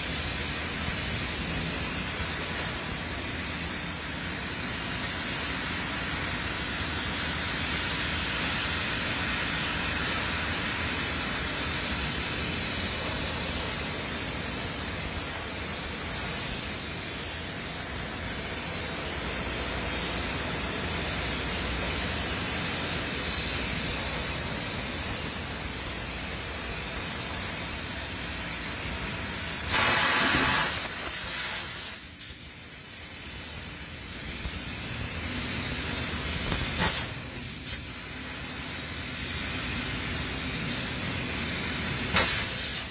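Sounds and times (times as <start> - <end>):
hissing machine noise: 0.0 - 42.9.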